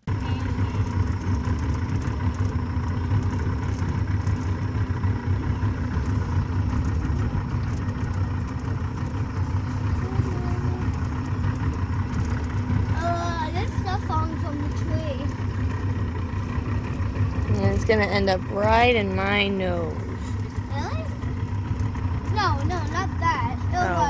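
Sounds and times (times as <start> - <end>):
motor running: 0.0 - 24.0.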